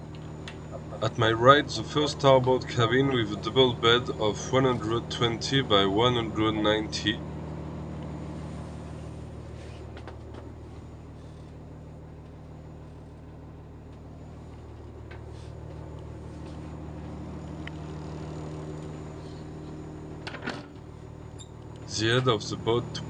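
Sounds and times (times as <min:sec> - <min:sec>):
diesel engine idling hum: 0:00.0 - 0:23.0.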